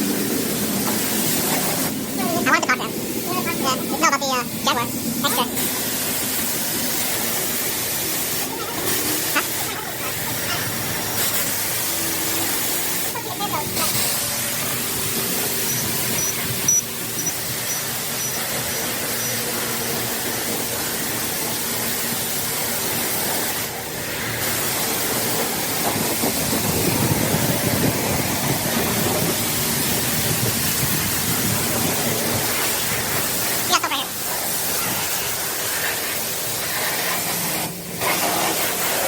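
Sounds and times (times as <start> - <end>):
pressure washer spraying car: 0.0 - 39.0.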